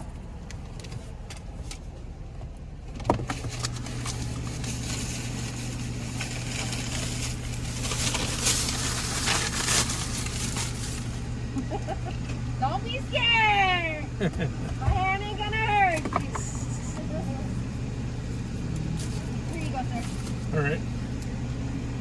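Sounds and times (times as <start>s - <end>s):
car engine low hum: 0.0s - 22.0s.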